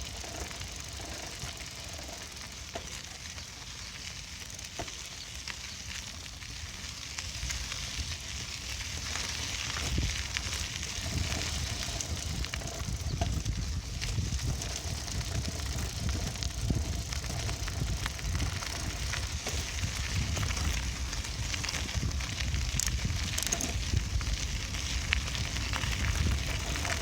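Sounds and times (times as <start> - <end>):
bicycle tyres hissing on path: 0.0 - 27.0.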